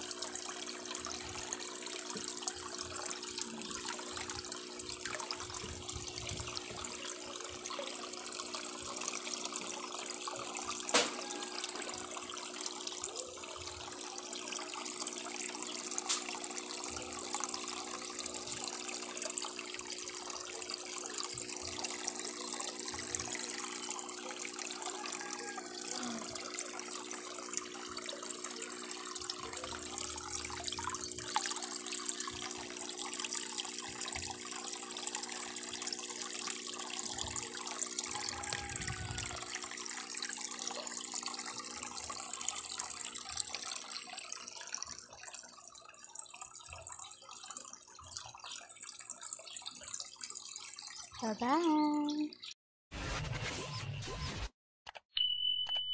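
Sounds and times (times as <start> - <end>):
aquarium water bubbling: 0.0 - 52.6.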